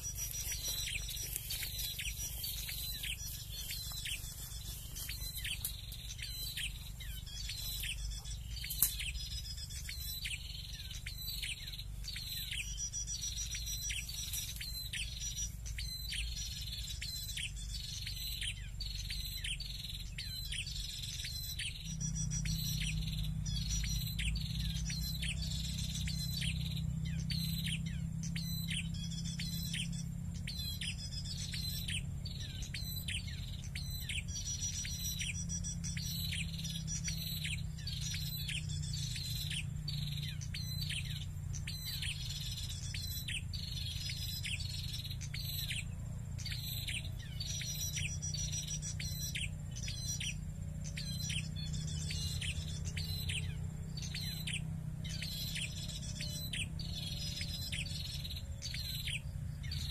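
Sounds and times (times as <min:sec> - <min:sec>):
bird calling: 0:00.0 - 0:59.9.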